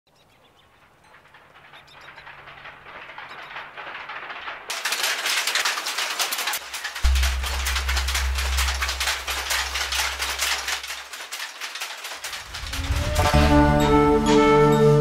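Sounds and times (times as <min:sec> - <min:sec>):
weaving looms clattering: 0:00.1 - 0:15.0.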